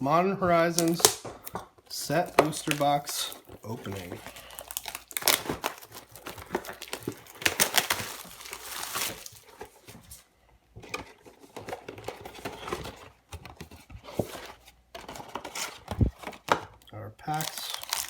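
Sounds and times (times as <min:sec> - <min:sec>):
packaging crinkling and rustling: 0:00.8 - 0:18.0.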